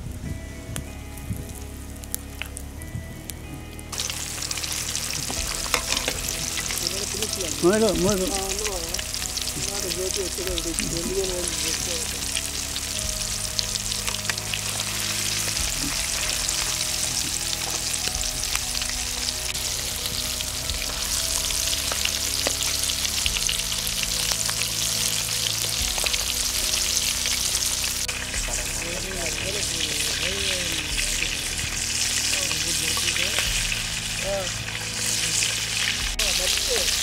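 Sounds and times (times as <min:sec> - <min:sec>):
oil crackling and popping: 0:00.0 - 0:37.0
chicken deep-frying in oil: 0:03.9 - 0:37.0.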